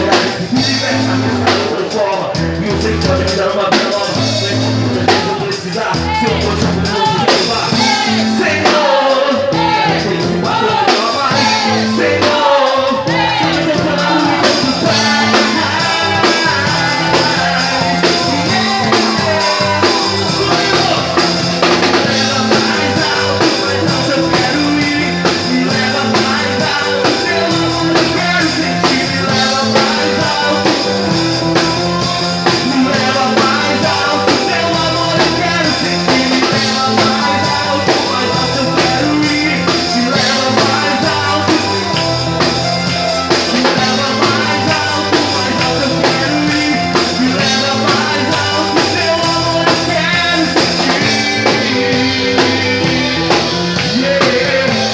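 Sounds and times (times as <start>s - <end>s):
rock band playing: 0.0s - 54.9s.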